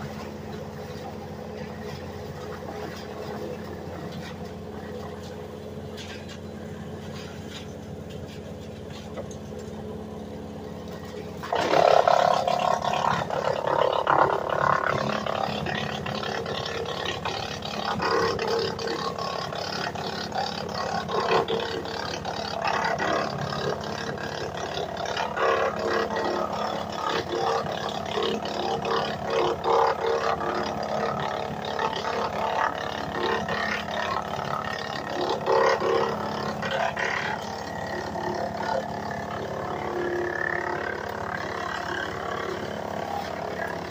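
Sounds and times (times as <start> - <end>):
tractor engine running: 0.0 - 43.9
wood chipper grinding pole: 0.0 - 43.9.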